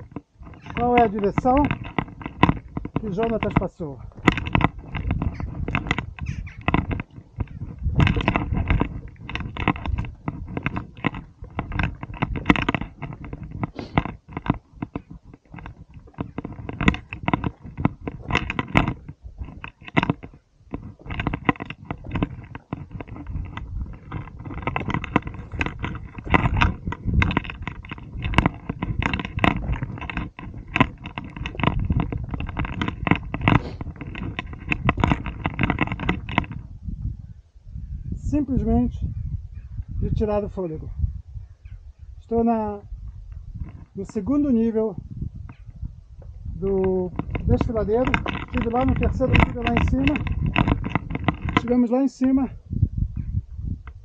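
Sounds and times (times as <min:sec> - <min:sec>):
footsteps crunching on loose stones: 0:00.0 - 0:37.1, 0:42.2 - 0:54.0.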